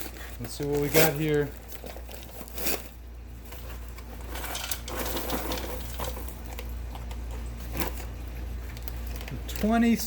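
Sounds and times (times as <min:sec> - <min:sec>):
popcorn bag rustling: 0:00.0 - 0:10.0.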